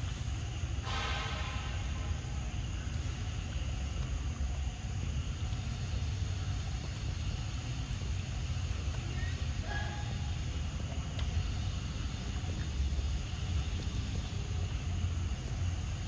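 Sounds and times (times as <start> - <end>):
faint even hiss: 0.0 - 16.0
steady low rumble: 0.0 - 16.0.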